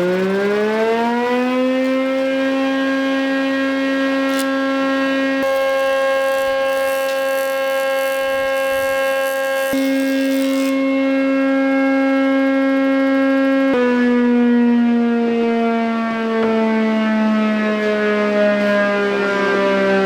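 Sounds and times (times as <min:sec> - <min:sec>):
electric planer whining: 0:00.0 - 0:20.0.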